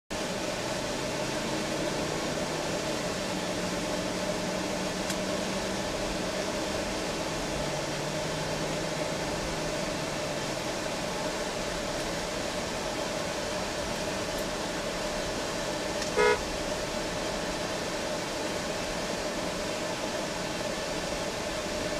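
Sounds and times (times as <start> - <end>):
vehicle cabin engine and tyre noise: 0.1 - 21.9.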